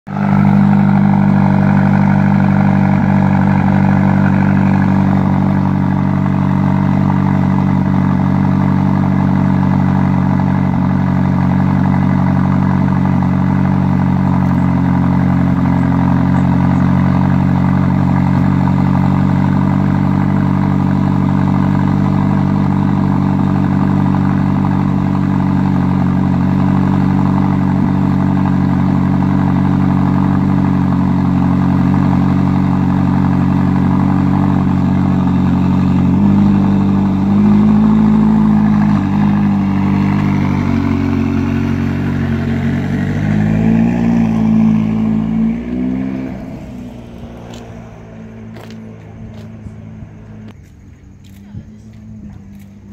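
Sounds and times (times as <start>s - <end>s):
car engine idling: 0.0s - 52.9s
car pulling out slowly: 0.1s - 52.9s.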